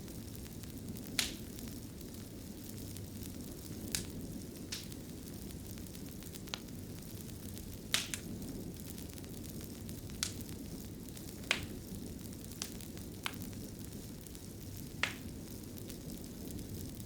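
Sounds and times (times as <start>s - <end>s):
sharp fire pops: 0.0s - 17.0s
wood fire crackling: 0.0s - 17.0s.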